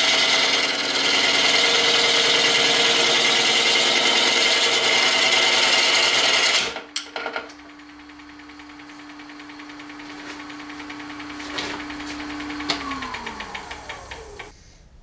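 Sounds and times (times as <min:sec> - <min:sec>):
lathe humming: 0:00.0 - 0:06.8, 0:07.6 - 0:14.5
lathe tool scraping wood: 0:00.0 - 0:06.8, 0:08.8 - 0:14.5.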